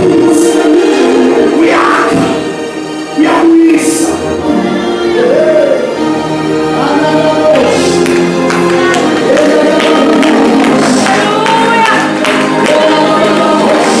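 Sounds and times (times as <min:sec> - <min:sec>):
worship music with singing: 0:00.0 - 0:14.0.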